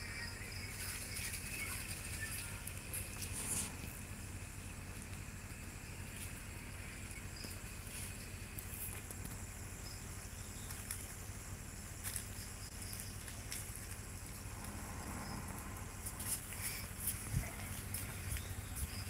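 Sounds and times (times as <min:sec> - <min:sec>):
insect chirring: 0:00.0 - 0:19.0
low engine hum: 0:00.0 - 0:19.0.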